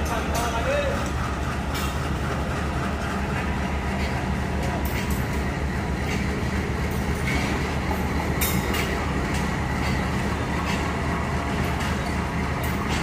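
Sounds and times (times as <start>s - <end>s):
diesel train engine hum: 0.0s - 13.0s
wheels clacking over rail joints: 0.0s - 13.0s.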